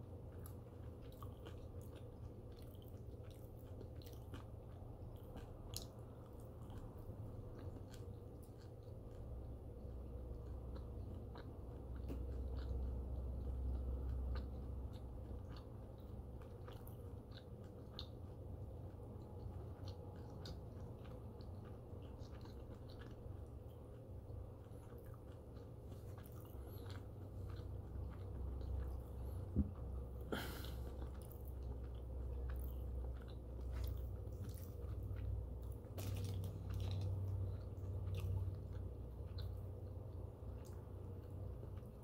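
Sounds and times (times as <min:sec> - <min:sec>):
chewing with crunches: 0:00.0 - 0:42.0.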